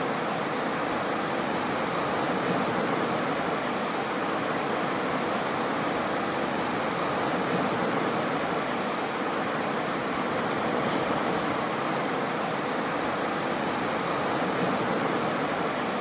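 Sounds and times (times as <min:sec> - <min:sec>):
waves washing on sandy beach: 0:00.0 - 0:16.0.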